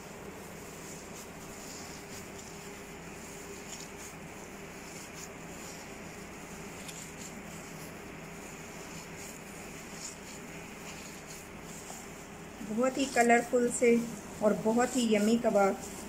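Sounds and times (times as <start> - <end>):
gloved hand kneading mixture: 0.0 - 16.0
low hum and hiss: 0.0 - 16.0.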